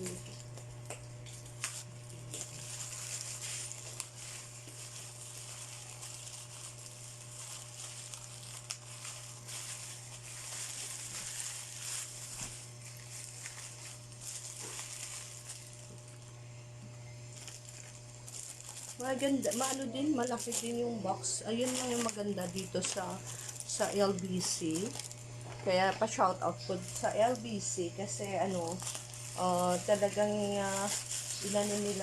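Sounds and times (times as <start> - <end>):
plastic packaging crinkling: 0.0 - 16.3, 17.2 - 32.0
steady low hum: 0.0 - 32.0.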